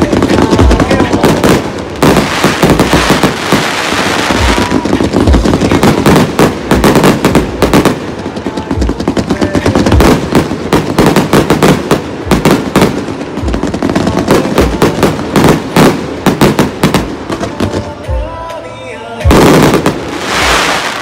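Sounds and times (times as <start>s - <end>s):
fireworks bangs and crackles: 0.0s - 18.3s, 19.2s - 21.0s.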